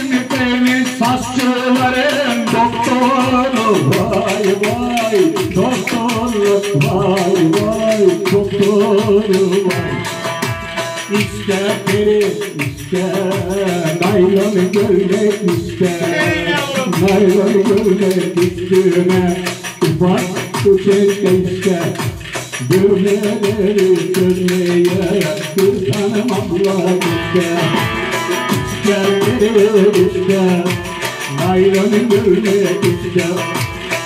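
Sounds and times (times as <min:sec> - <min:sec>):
lute strummed fast: 0:00.0 - 0:34.0
man singing: 0:00.0 - 0:34.0.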